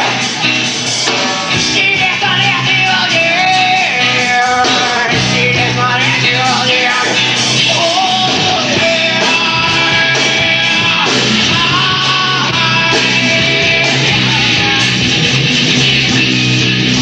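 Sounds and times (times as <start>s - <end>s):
electric guitars: 0.0s - 17.0s
rock band playing: 0.0s - 17.0s
person singing: 1.5s - 15.1s.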